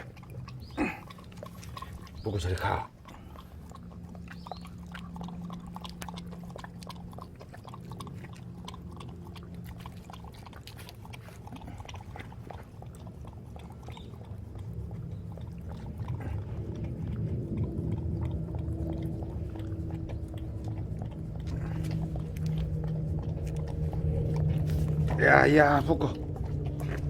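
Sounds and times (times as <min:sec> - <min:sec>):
dog lapping liquid: 0:00.0 - 0:27.0.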